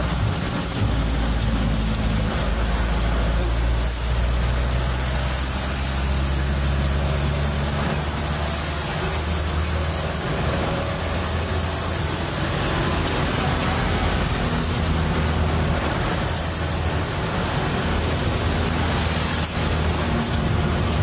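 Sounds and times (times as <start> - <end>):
road and rain noise: 0.0 - 21.0
truck engine running: 0.0 - 21.0.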